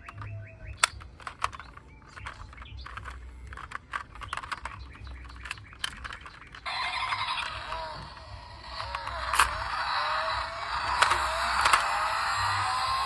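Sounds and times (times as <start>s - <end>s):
small hard objects clicking: 0.0s - 13.0s
held tones: 0.2s - 13.0s.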